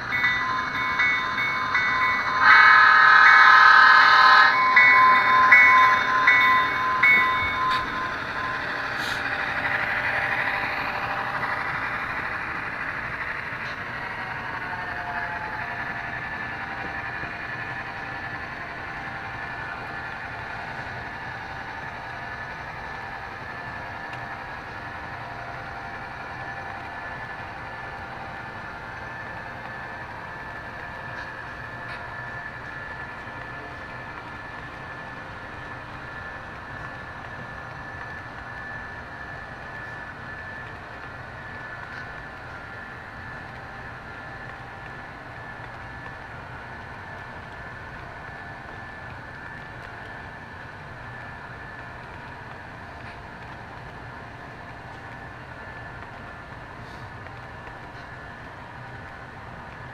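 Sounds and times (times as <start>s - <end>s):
train running past: 0.0s - 59.9s.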